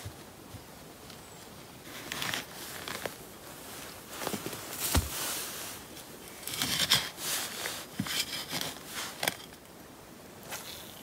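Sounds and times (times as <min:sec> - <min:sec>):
scraping and rustling of digging: 0:01.0 - 0:09.8, 0:10.4 - 0:11.0.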